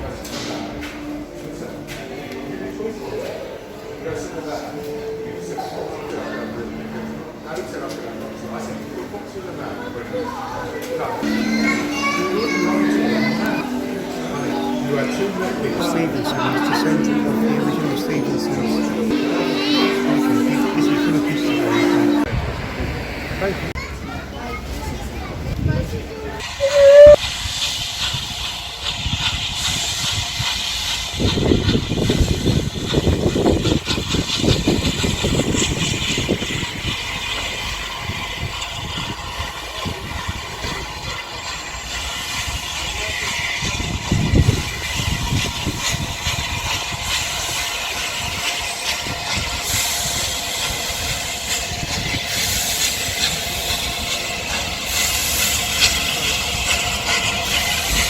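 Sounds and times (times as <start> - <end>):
steam train hissing: 0.0 - 23.8, 26.4 - 58.0
low train rumble: 0.0 - 58.0.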